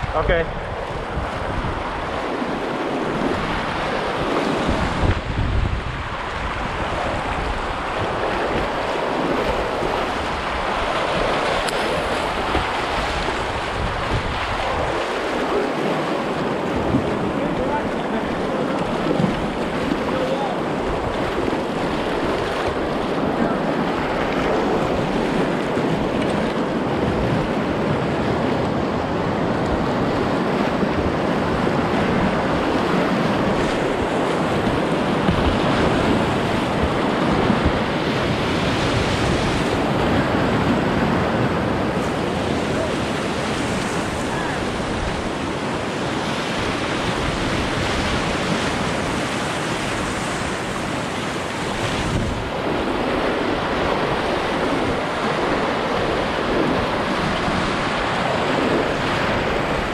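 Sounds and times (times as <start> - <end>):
whitewater rushing: 0.0 - 59.9
wind on microphone: 0.0 - 59.9.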